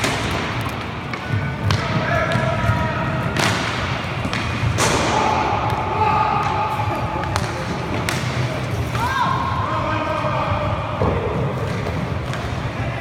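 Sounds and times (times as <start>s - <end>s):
hockey sticks and puck knocks: 0.0s - 9.5s, 11.0s - 12.8s
players shouting: 0.9s - 13.0s.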